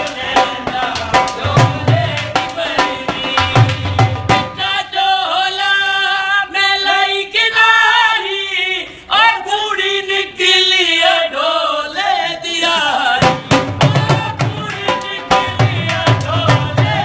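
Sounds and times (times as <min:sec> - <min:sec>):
voices singing a chant-like melody: 0:00.0 - 0:17.0.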